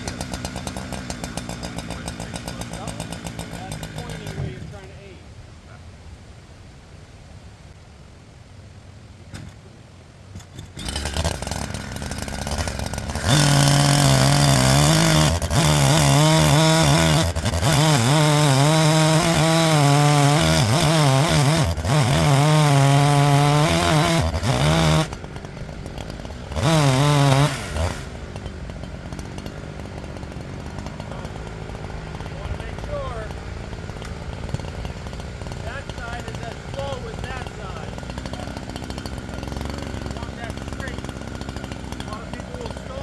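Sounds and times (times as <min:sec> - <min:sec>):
chainsaw idling and revving: 0:00.0 - 0:05.2, 0:10.3 - 0:43.0.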